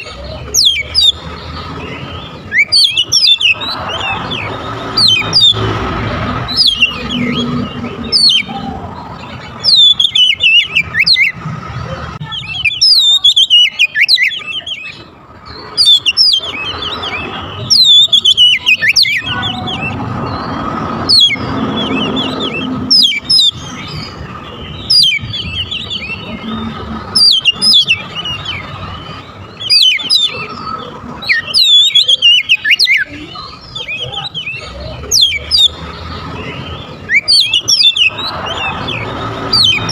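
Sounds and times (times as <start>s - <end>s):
bird singing whistled chirps: 0.5s - 5.7s, 6.5s - 11.4s, 12.4s - 39.9s.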